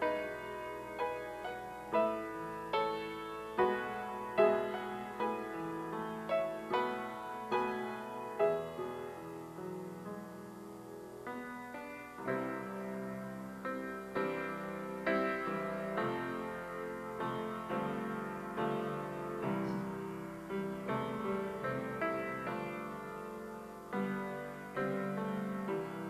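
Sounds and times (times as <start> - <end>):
slow gentle piano piece: 0.0 - 26.0.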